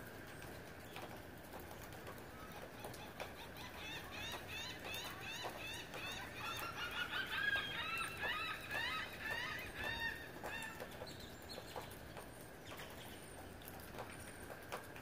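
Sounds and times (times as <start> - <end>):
faint scattered clicks: 0.0 - 15.0.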